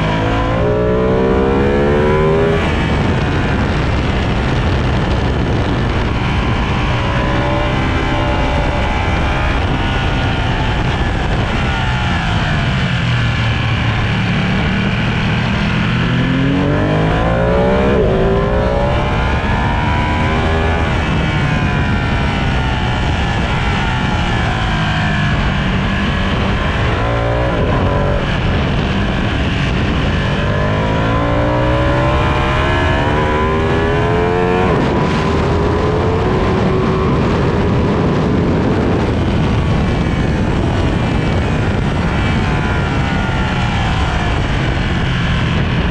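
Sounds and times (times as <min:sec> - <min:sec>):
motorcycle engine revving: 0:00.0 - 0:45.9
steady rushing noise: 0:00.0 - 0:45.9.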